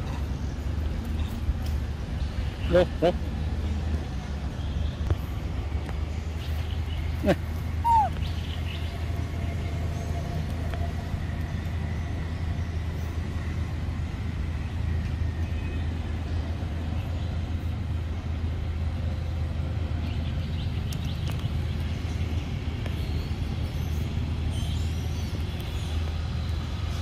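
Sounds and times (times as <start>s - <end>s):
faint outdoor background sound: 0.0s - 27.0s.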